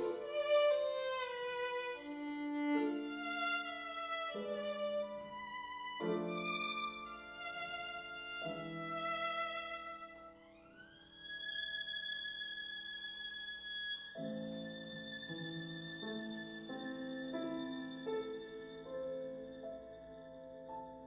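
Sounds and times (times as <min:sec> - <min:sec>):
solo violin mournful melody: 0:00.0 - 0:21.0.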